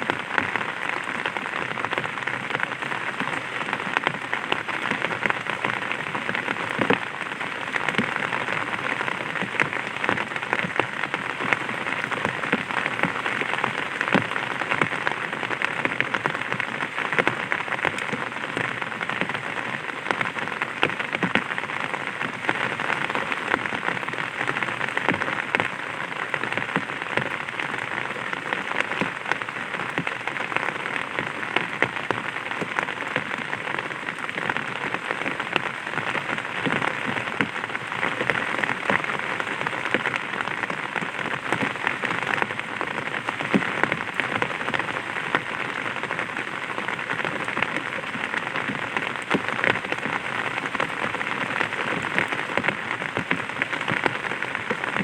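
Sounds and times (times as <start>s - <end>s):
light rain on an umbrella: 0.0s - 55.0s.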